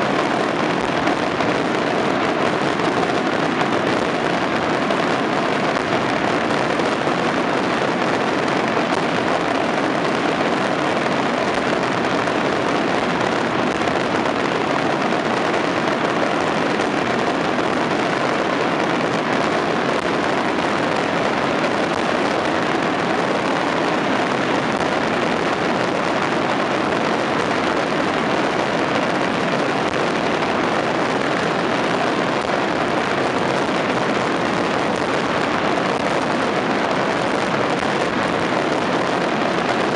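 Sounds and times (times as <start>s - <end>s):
firework barrage crackling: 0.0s - 39.9s.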